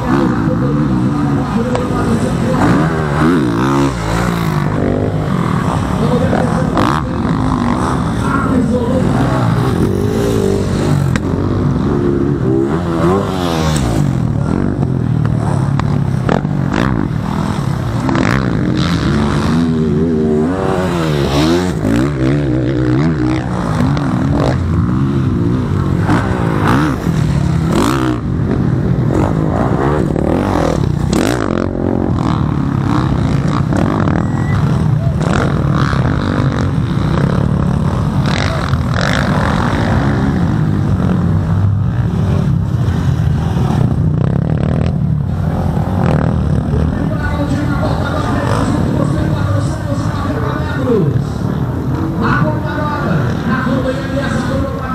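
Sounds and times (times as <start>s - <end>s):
motocross engines revving: 0.0s - 54.9s.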